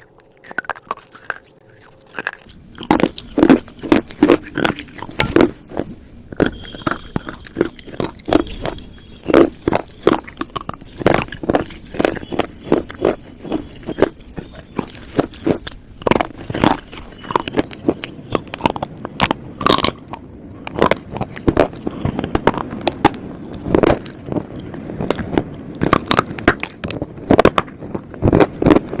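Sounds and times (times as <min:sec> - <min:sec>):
slate being chewed with crunches: 0:00.0 - 0:29.0
soft grinding between bites: 0:00.0 - 0:29.0.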